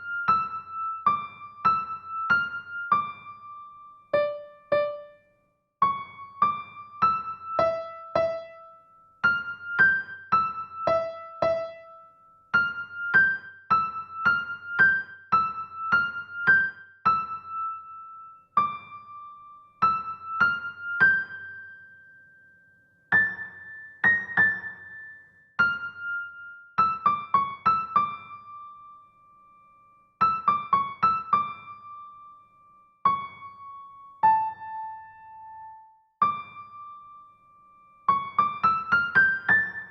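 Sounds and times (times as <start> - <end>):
slow piano melody: 0.0 - 39.9.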